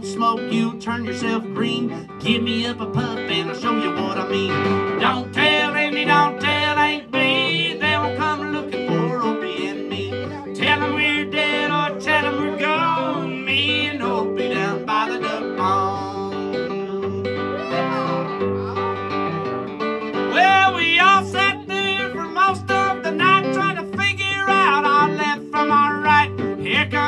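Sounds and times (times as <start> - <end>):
acoustic guitar strumming: 0.0 - 27.0
bending lead melody: 0.0 - 27.0.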